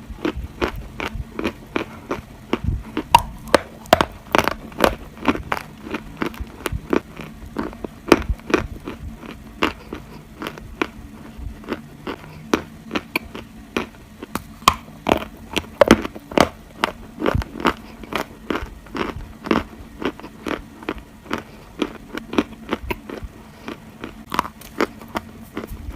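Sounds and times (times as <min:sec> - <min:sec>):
crunchy clay being chewed: 0:00.0 - 0:25.9.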